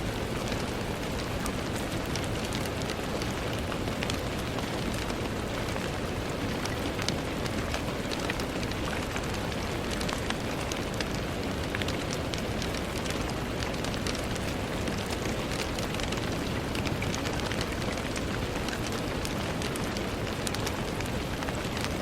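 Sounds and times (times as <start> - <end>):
rain against a window: 0.0 - 22.0.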